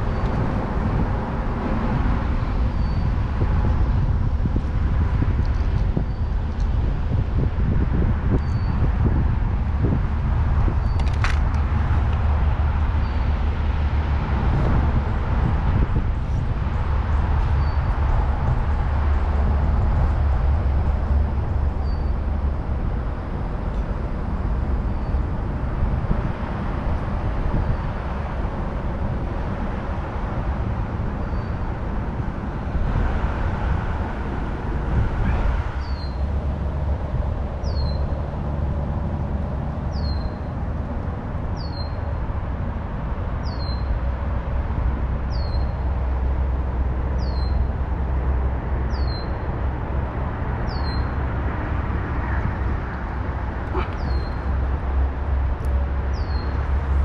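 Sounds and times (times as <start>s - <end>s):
outdoor low rumble and hiss: 0.0s - 57.0s.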